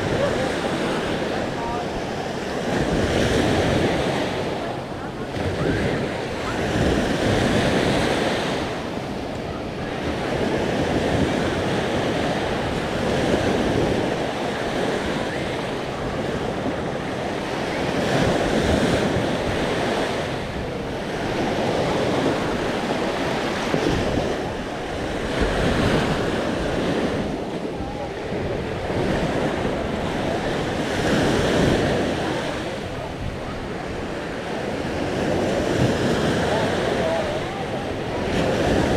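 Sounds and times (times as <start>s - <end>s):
sea waves on a beach: 0.0s - 38.9s
wind buffeting microphone: 0.0s - 38.9s.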